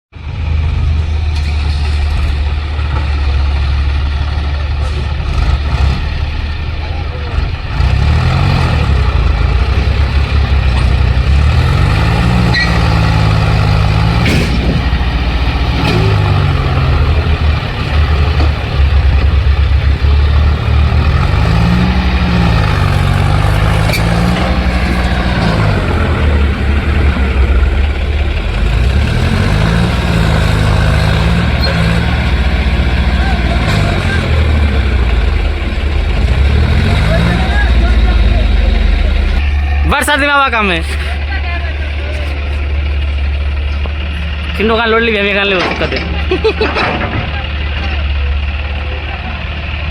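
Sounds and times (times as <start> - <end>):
tractor diesel engine under load: 0.1 - 49.9.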